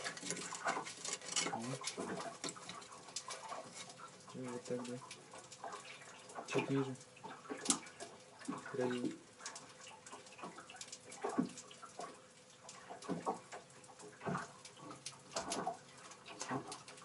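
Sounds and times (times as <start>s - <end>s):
faint water sound: 0.0s - 17.0s.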